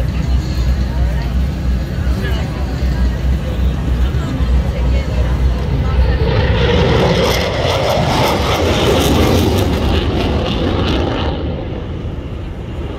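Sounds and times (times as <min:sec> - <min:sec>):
jet engine roar passing overhead: 0:00.0 - 0:12.9.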